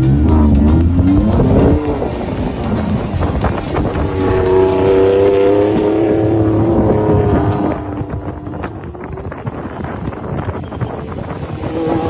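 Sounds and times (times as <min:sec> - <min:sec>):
truck engine revving: 0:00.0 - 0:09.9.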